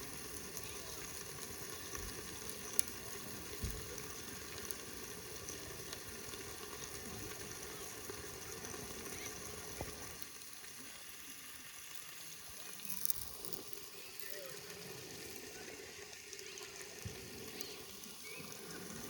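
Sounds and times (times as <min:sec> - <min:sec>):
meat sizzling in frying pan: 0:00.0 - 0:19.0.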